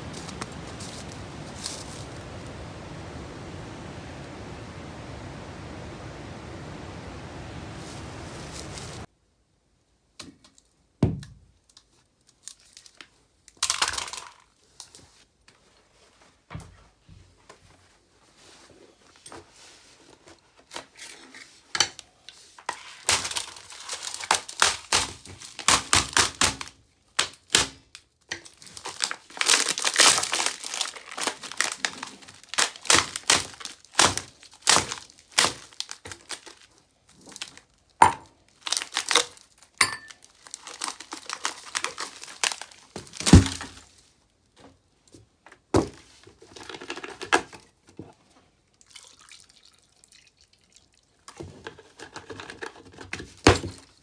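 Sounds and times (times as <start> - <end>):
crinkling and crackling: 0.0 - 9.1, 11.6 - 48.9, 51.0 - 54.0.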